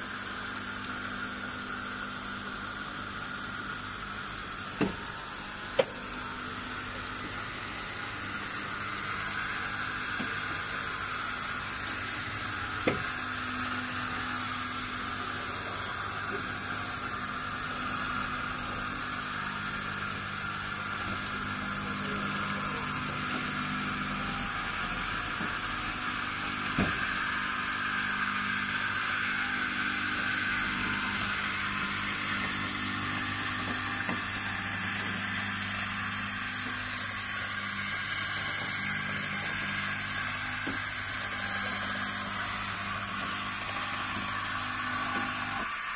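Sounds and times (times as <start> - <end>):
robot motor hum: 0.1 - 45.9.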